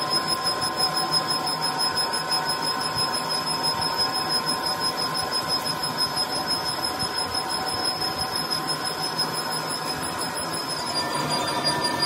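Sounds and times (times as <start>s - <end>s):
high-pitched whine: 0.0s - 12.0s
metal lathe running: 0.0s - 12.0s.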